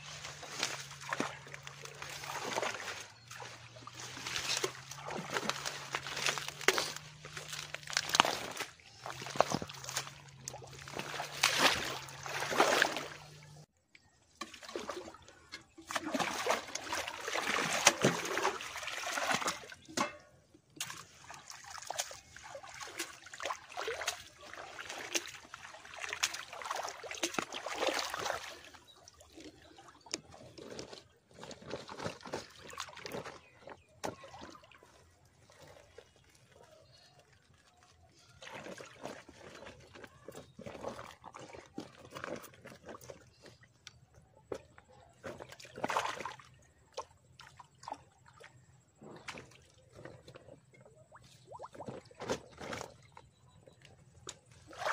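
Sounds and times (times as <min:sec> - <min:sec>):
water splashing and sloshing: 0:00.0 - 0:54.9.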